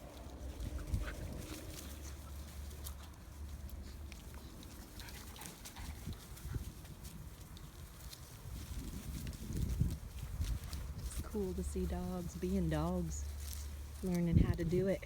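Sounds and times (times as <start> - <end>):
dogs scuffling: 0.0 - 15.0
low steady rumble: 0.0 - 15.0.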